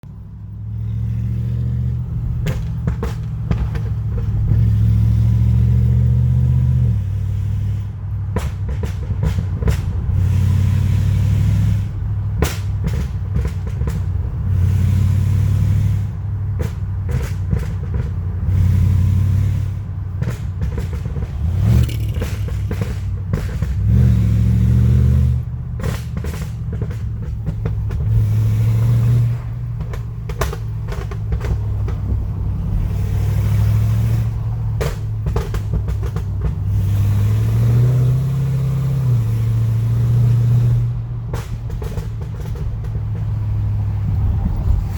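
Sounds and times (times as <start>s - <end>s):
car engine revving: 0.6s - 44.9s
exhaust pops and crackles: 2.2s - 5.0s, 8.1s - 10.5s, 11.2s - 14.8s, 15.4s - 18.7s, 19.4s - 44.9s.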